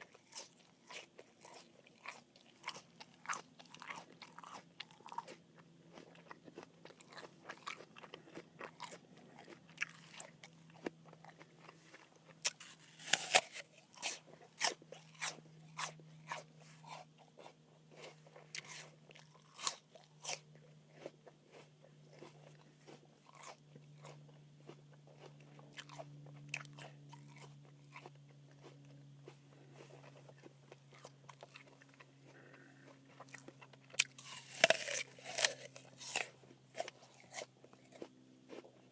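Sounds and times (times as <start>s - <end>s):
apple crunching: 0.0s - 38.9s
faint low hum: 0.0s - 38.9s.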